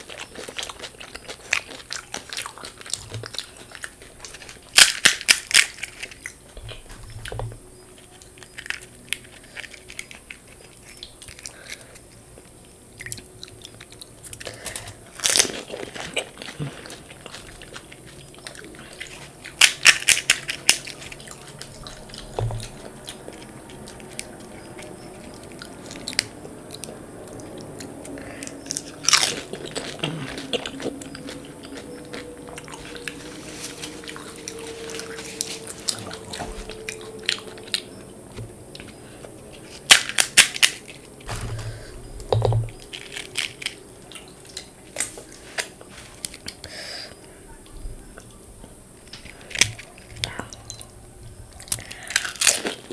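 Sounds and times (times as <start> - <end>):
chewing: 0.0 - 52.9
crunching crisp food: 0.0 - 52.9.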